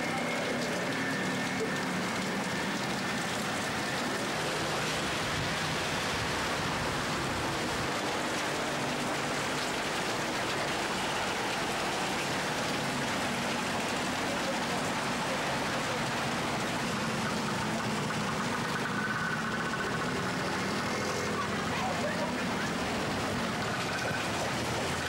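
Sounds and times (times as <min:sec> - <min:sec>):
heavy rain pouring on street: 0:00.0 - 0:25.0.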